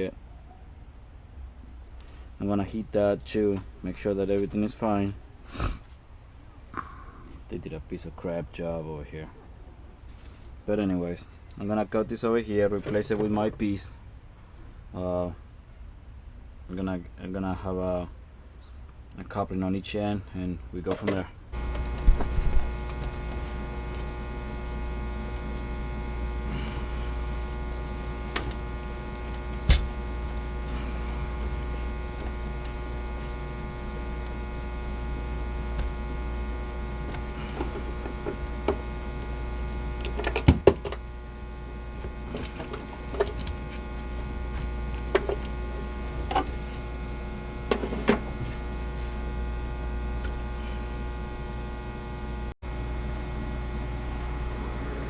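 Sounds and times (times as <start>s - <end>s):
machinery hum: 0.0s - 55.0s.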